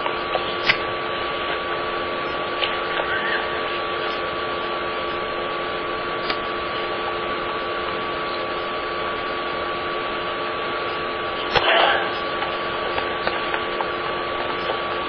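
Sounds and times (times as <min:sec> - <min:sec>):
steady tonal hum: 0:00.0 - 0:15.0.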